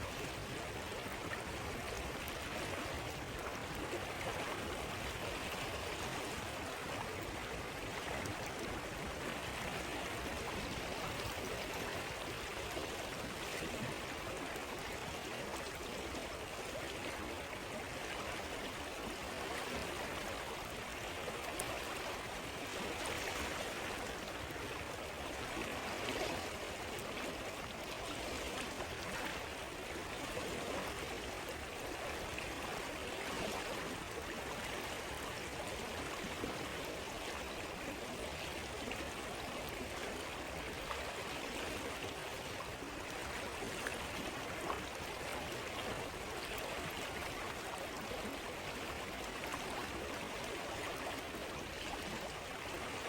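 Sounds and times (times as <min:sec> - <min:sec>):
stream rushing and burbling: 0:00.0 - 0:53.0.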